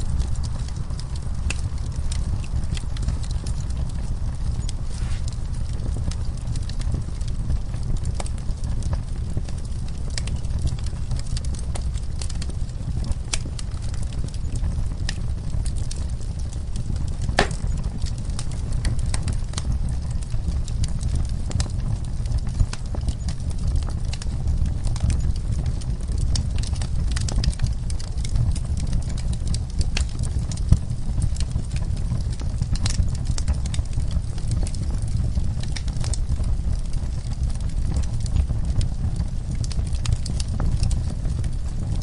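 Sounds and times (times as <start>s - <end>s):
log fire crackling: 0.0s - 42.0s.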